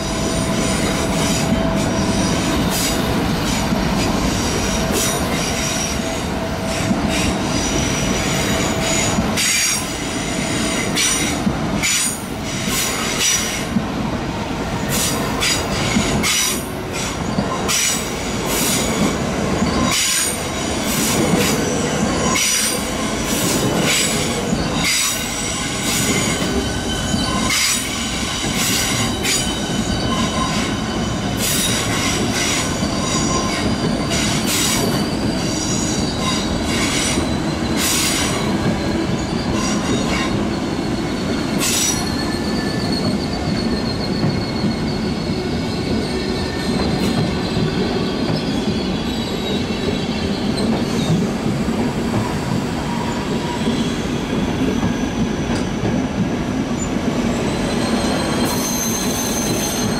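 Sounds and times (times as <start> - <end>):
train wheels squealing: 0.0 - 13.8, 14.4 - 59.9
train rumble: 0.0 - 59.9.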